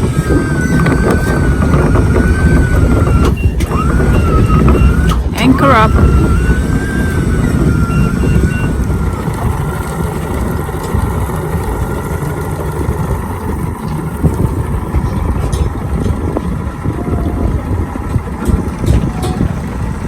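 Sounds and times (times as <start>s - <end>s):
motorboat engine running: 0.0s - 20.0s
wind and water rumble: 0.0s - 20.0s.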